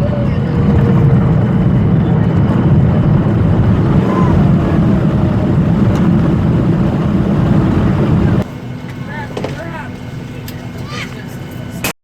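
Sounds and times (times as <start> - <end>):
airliner engines rumbling: 0.0 - 11.9
faint voices: 0.0 - 11.9.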